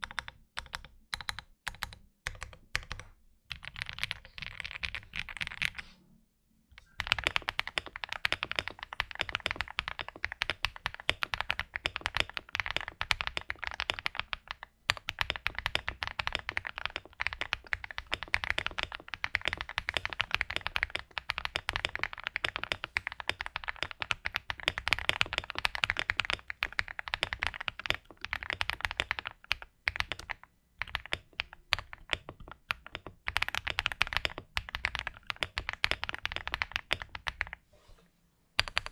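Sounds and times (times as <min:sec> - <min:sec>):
mechanical keyboard typing: 0:00.0 - 0:05.8, 0:06.8 - 0:37.6, 0:38.6 - 0:38.9.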